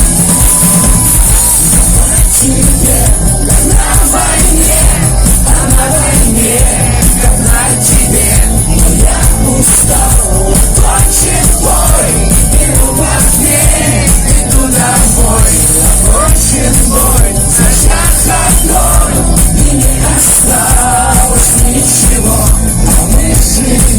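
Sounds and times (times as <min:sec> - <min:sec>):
live rock music: 0:00.0 - 0:23.9.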